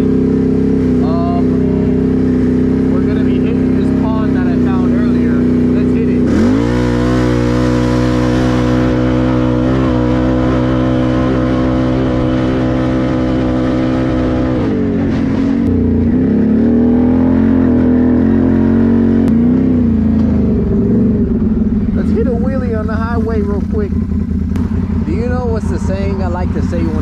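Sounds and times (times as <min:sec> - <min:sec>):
atv engine revving: 0:00.0 - 0:27.0.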